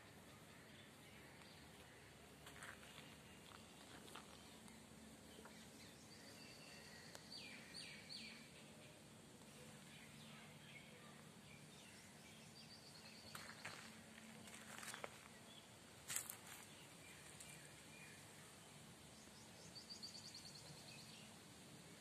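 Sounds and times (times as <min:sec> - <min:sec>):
birds chirping: 0:00.0 - 0:21.4.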